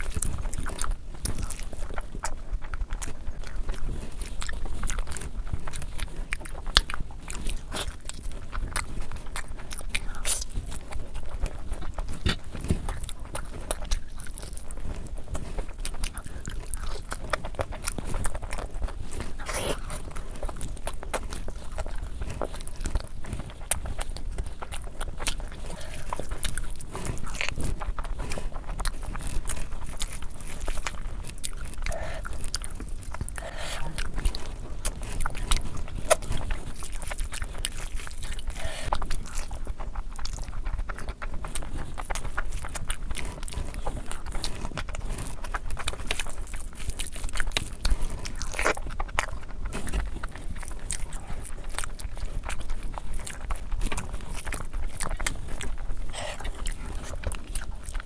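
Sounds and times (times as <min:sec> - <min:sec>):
person chewing food: 0:00.0 - 0:58.0
small eating clicks: 0:00.0 - 0:58.0.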